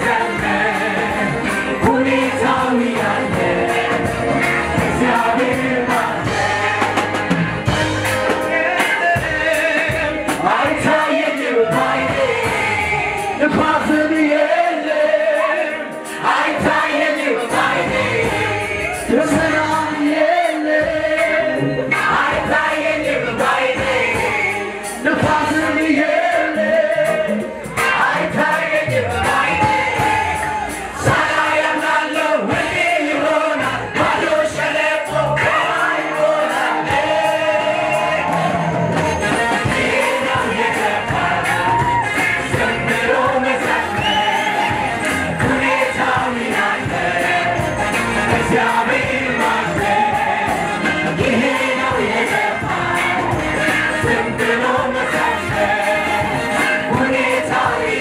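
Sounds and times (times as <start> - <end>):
band with drums and keyboard: 0.0 - 58.0
choir and singers singing: 0.0 - 58.0.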